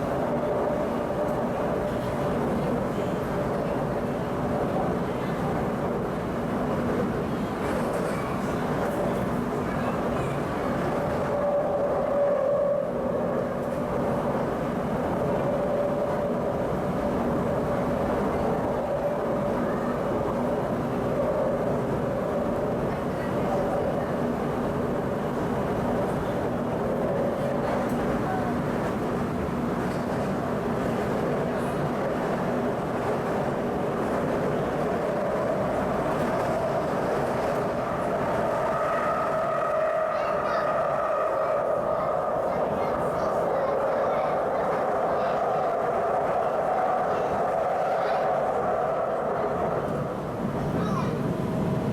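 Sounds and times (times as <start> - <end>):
metro train rumbling on rails: 0.0 - 51.9.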